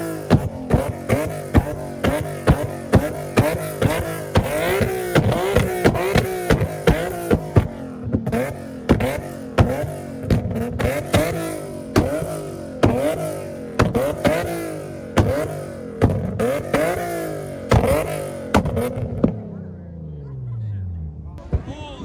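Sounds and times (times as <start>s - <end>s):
car engine revving in blips: 0.0s - 22.0s.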